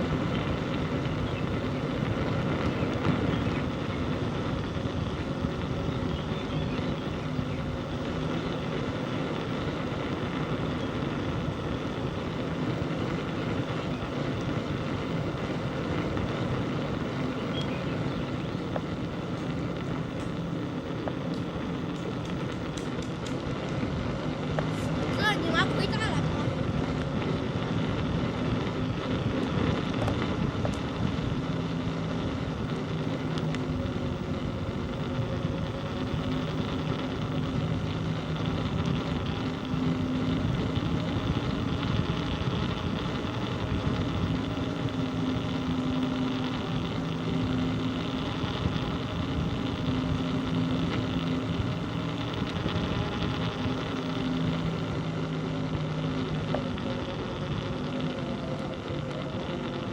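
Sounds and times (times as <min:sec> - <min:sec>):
engine droning hum: 0:00.0 - 0:59.9
road noise: 0:00.0 - 0:59.9
wind: 0:00.0 - 0:59.9.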